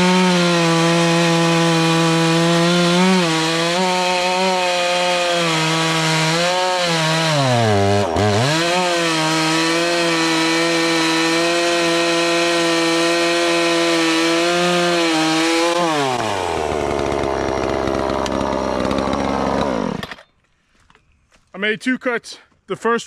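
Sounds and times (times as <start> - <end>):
chainsaw cutting log: 0.0 - 20.3.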